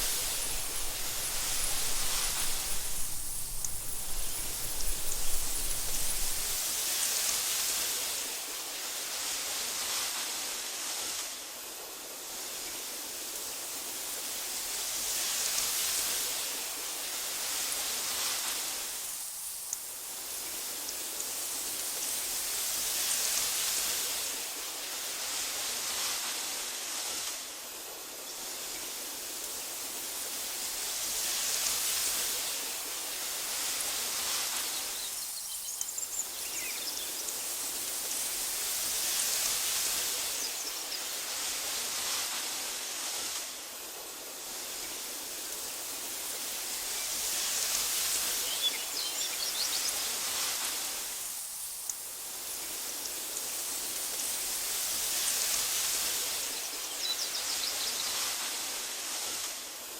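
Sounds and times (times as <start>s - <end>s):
wind through tall grass: 0.0s - 59.9s.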